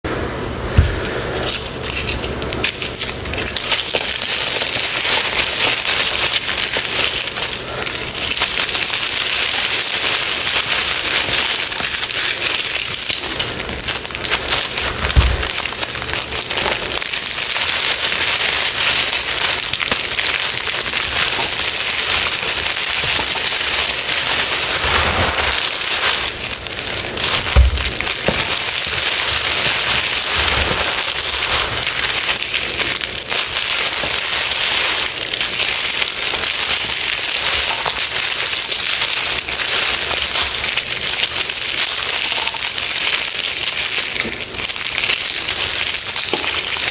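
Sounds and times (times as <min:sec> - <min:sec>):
crunching and crackling: 0:00.7 - 0:46.9.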